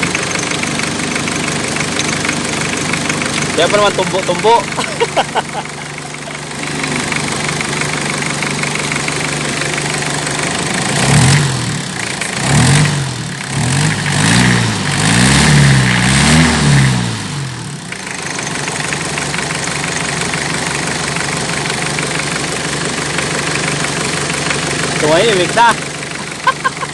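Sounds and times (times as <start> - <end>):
diesel engine idling: 0.0 - 26.9
engine throttle blips: 0.0 - 26.9.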